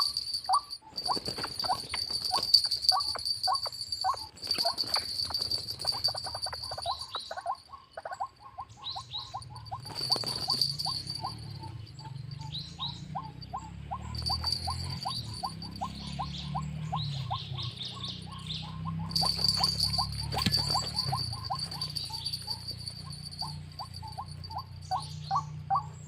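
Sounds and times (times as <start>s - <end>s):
high chirps: 0.0s - 26.0s.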